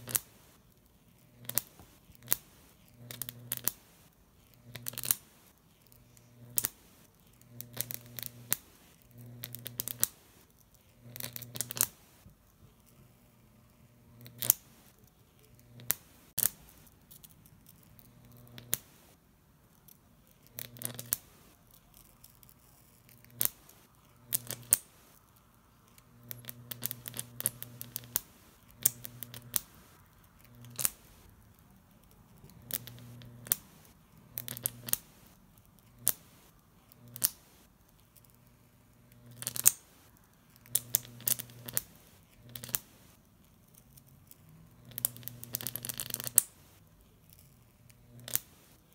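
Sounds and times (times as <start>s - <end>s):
electric arc crackling and snapping: 0.0s - 12.7s, 13.8s - 48.9s
low electrical buzz: 0.0s - 48.9s.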